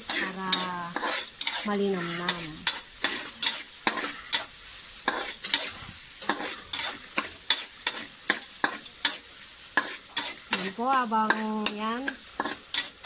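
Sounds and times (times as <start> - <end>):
meat sizzling in oil: 0.0 - 13.0
metal spatula scraping a pan: 0.0 - 13.0.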